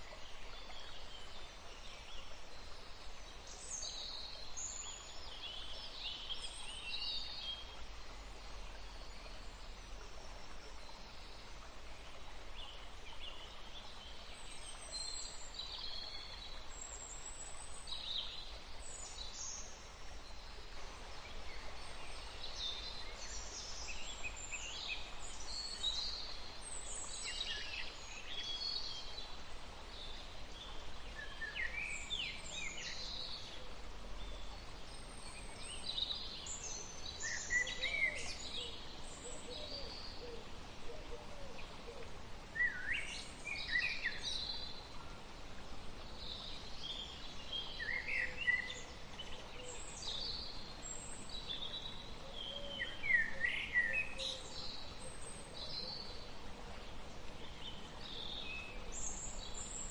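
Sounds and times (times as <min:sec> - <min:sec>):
faint steady background hiss: 0:00.0 - 0:59.9.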